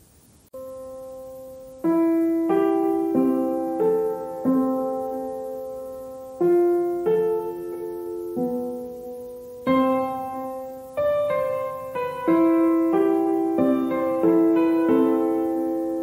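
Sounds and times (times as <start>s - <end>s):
slow gentle piano music: 0.5s - 16.0s.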